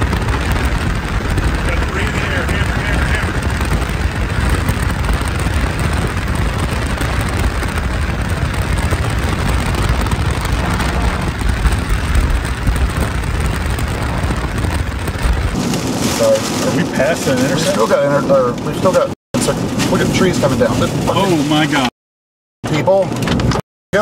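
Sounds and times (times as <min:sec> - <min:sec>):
wind buffeting microphone: 0:00.0 - 0:21.7
wind and road noise: 0:00.0 - 0:21.9, 0:22.7 - 0:24.0.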